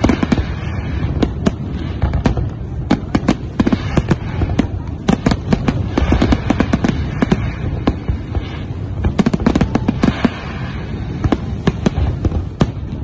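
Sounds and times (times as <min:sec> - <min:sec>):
fireworks bursting: 0:00.0 - 0:13.0
low rumble: 0:00.0 - 0:13.0.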